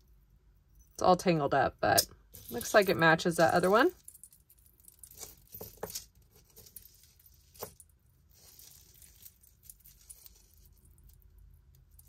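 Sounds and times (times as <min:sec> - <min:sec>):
metal chain clinking: 0:02.0 - 0:12.0.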